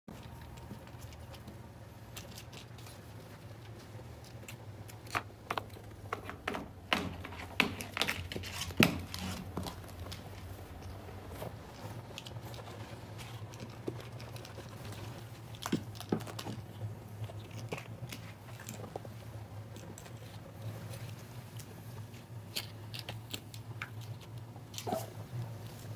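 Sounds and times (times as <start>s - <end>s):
low steady hum: 0.1s - 25.9s.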